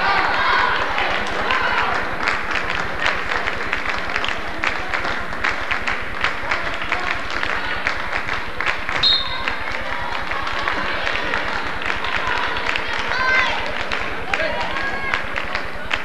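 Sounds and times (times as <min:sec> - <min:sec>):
crowd chatter: 0:00.0 - 0:16.0
people clapping: 0:00.0 - 0:16.0.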